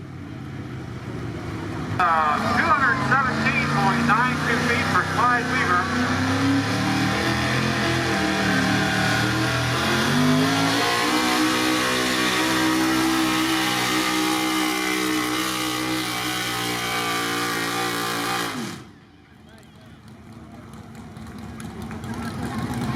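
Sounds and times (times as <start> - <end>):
truck engine at high revs: 0.0 - 19.0, 19.6 - 22.9.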